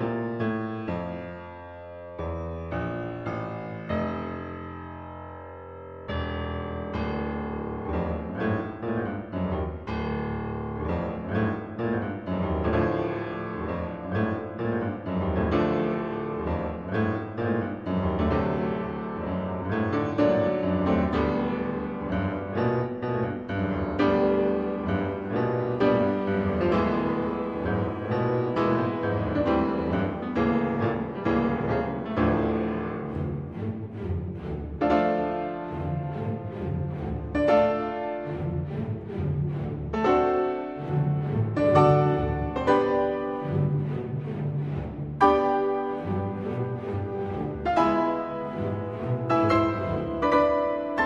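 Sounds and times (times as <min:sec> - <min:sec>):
piano music: 0:00.0 - 0:51.0.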